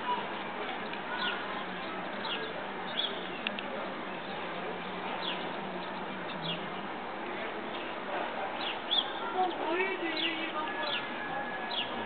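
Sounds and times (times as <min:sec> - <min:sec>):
outdoor background noise: 0:00.0 - 0:12.0
small birds chirping: 0:00.1 - 0:06.9, 0:08.6 - 0:12.0.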